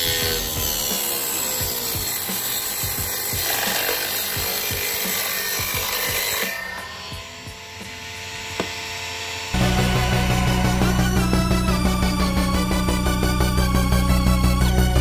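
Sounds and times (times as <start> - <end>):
circular saw cutting board: 0.0 - 15.0
motor whining: 0.0 - 15.0.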